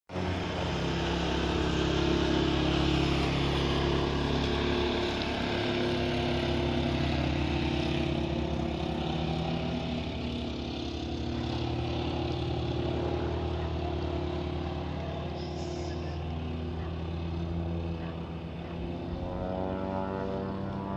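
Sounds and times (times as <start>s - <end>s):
engine droning: 0.1s - 20.9s.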